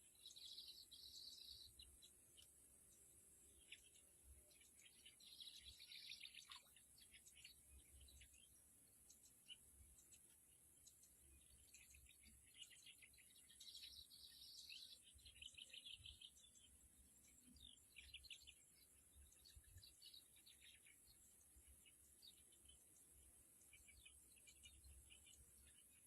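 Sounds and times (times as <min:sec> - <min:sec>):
bird chirps and twittering: 0:00.0 - 0:26.0
steady high-pitched hiss: 0:00.0 - 0:26.0.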